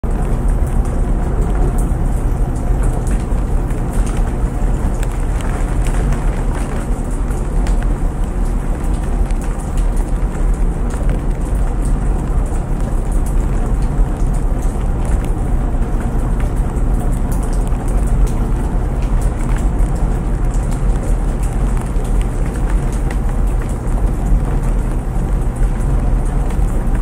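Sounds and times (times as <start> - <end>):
laundry machines rumbling: 0.0 - 27.0
steady rain: 0.0 - 27.0.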